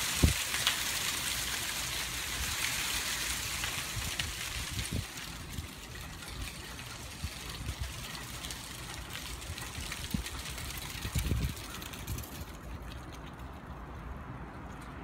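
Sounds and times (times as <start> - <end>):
wind rumble on microphone: 0.0 - 0.8, 2.1 - 15.0
dry leaves rustling in wind: 0.0 - 15.0.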